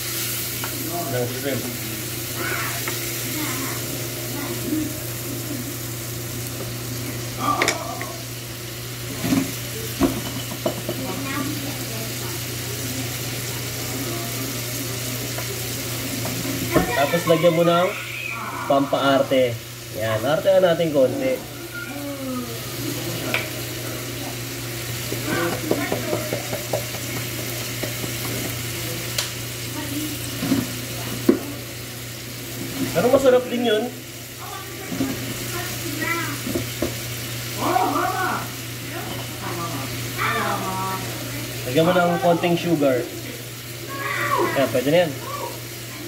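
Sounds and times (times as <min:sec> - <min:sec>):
shrimp sizzling in frying pan: 0:00.0 - 0:46.0.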